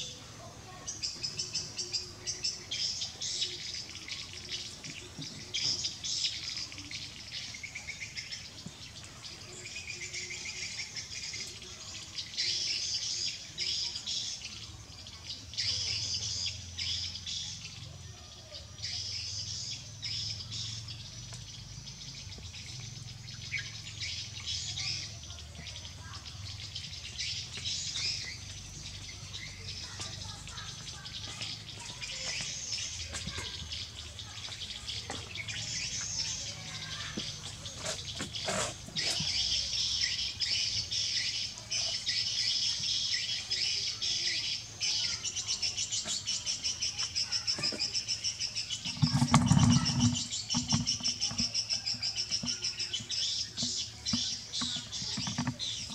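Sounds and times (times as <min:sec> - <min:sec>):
birds chirping: 0:00.0 - 0:55.9
insects trilling: 0:00.0 - 0:55.9.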